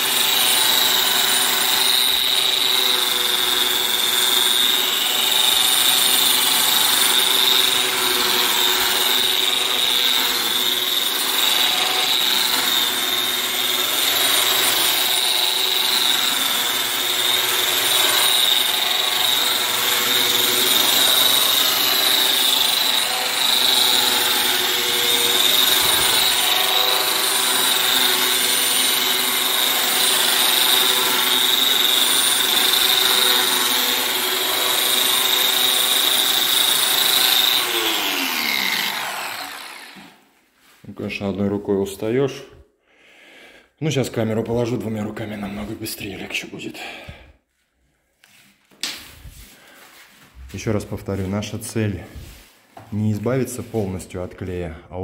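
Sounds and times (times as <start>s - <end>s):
wall sander whining and sanding: 0.0s - 41.5s, 48.2s - 54.2s.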